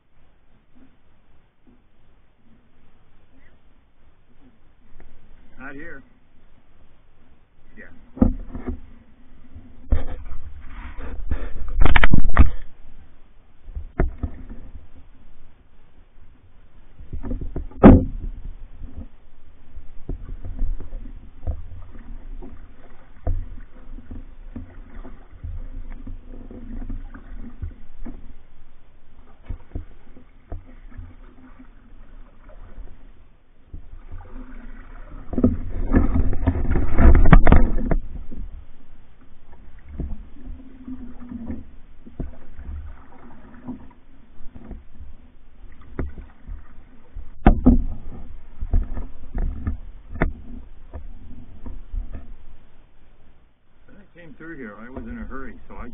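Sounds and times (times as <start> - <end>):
paddle strokes in water: 0.0 - 55.9.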